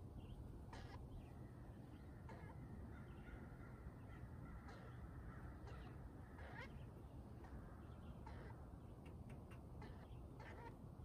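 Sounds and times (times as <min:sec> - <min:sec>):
harsh bird calls: 0:00.7 - 0:10.8.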